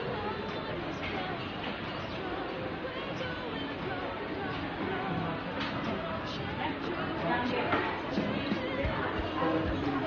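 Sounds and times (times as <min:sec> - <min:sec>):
indistinct chatter of people: 0:00.0 - 0:10.0.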